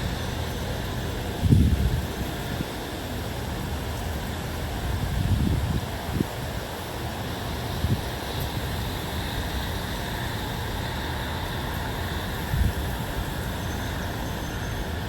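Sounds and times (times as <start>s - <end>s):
outdoor wind: 0.0s - 15.0s
wind gusts buffeting microphone: 0.0s - 15.0s.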